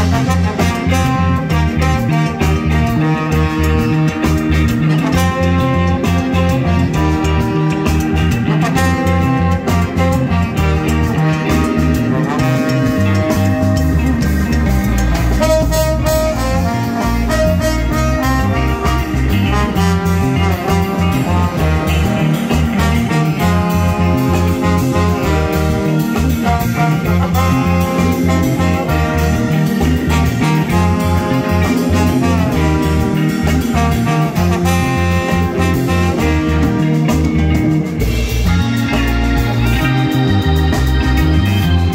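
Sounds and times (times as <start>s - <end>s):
drums: 0.0s - 41.9s
electric guitar: 0.0s - 41.9s
keyboard: 0.0s - 41.9s
trombone and saxophone horn lines: 0.0s - 41.9s.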